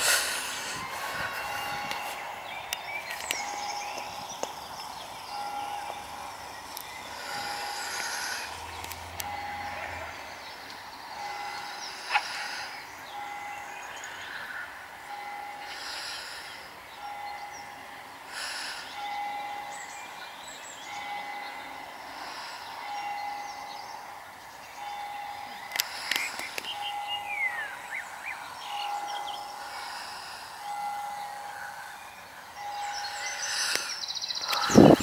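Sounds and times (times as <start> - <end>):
distant church bells ringing: 0.0 - 18.3, 18.9 - 35.0.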